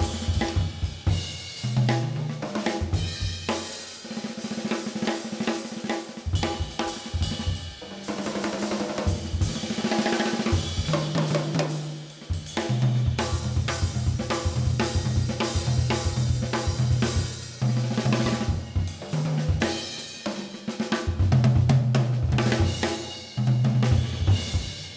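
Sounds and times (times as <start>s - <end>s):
jazz drum kit playing: 0.0s - 24.9s.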